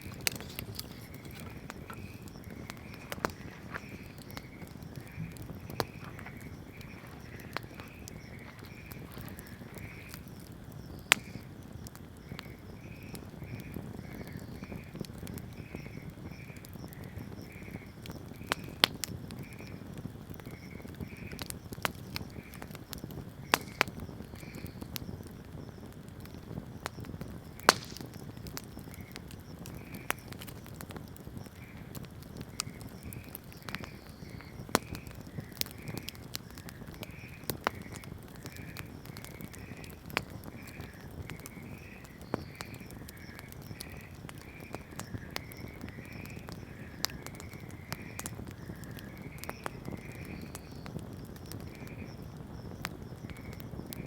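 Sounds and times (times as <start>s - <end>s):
burning wood crackling and popping: 0.0s - 54.0s
campfire flames rushing: 0.0s - 54.0s.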